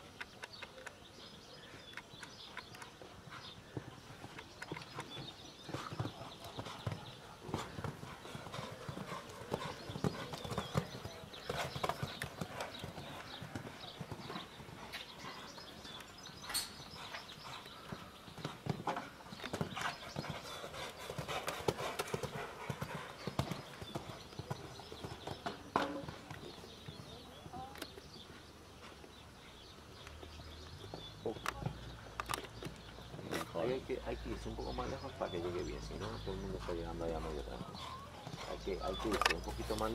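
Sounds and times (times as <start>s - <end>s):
horse hooves cantering on sand: 0.0s - 39.9s.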